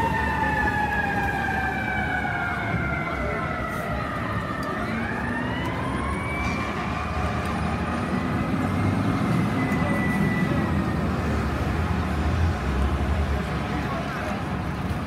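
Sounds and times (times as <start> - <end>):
fire truck siren wailing: 0.0 - 12.7
city traffic rumble: 0.0 - 15.0.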